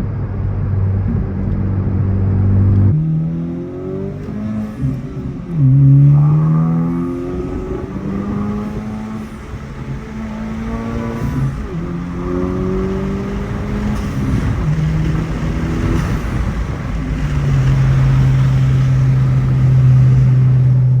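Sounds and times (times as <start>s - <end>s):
car engine and exhaust droning: 0.0s - 21.0s.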